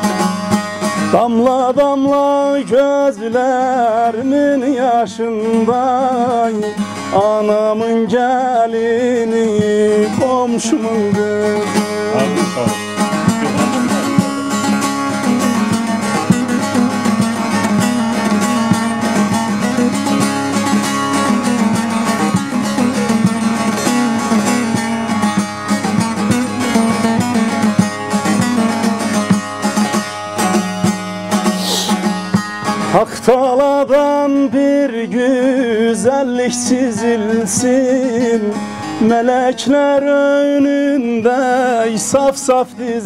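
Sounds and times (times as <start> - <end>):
plucked long-necked lute: 0.0 - 43.0.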